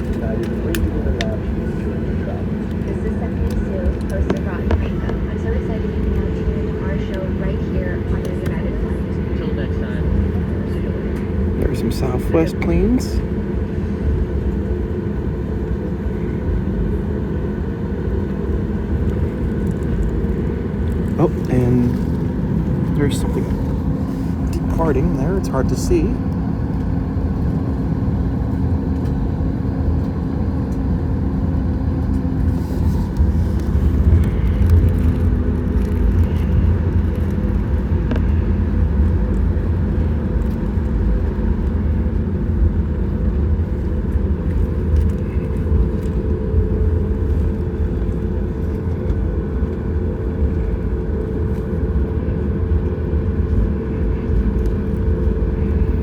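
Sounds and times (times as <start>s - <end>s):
aircraft cabin engine hum: 0.0s - 56.0s.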